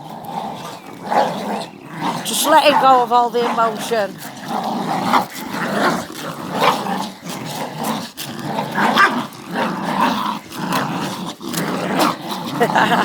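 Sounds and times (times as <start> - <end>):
dogs growling in play: 0.0 - 13.0.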